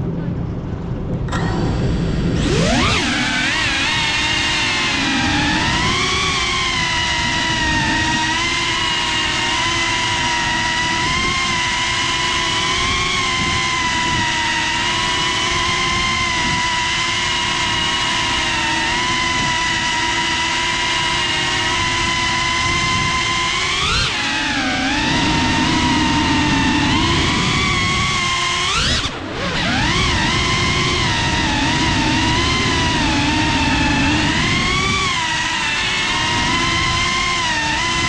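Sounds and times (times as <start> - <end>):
drone motors whining: 0.8 - 38.0.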